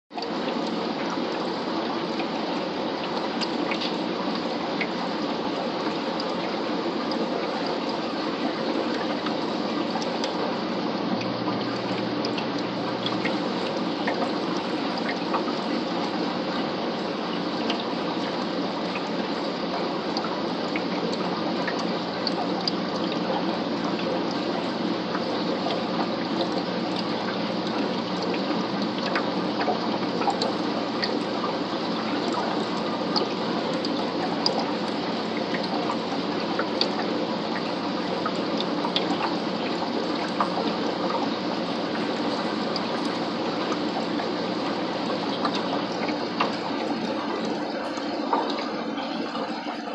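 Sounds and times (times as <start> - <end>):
aquarium water bubbling: 0.1 - 49.9
faint hum: 0.2 - 49.9.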